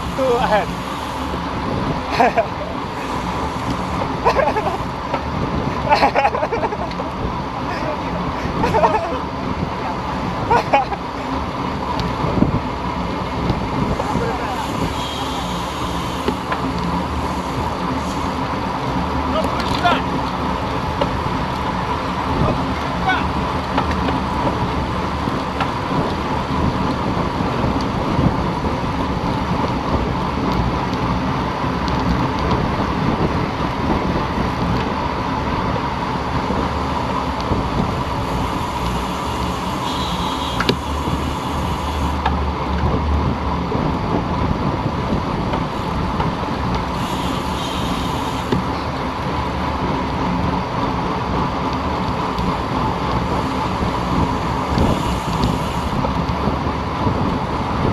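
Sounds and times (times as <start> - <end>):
wind rushing over microphone: 0.0 - 47.5, 48.4 - 57.9
road and tyre noise: 0.0 - 57.9.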